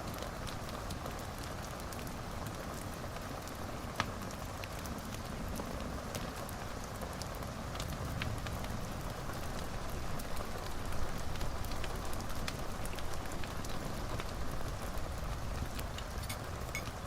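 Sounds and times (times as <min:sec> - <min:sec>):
fire crackles and pops: 0:00.0 - 0:17.0
wood fire hissing: 0:00.1 - 0:16.7.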